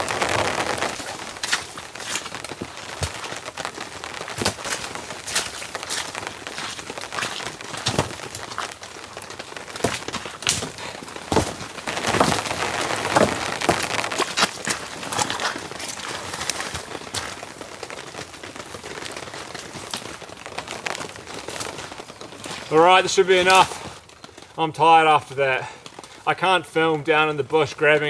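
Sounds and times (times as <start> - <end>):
steady rain: 0.0 - 28.0
wooden branches cracking and clattering: 0.0 - 28.0.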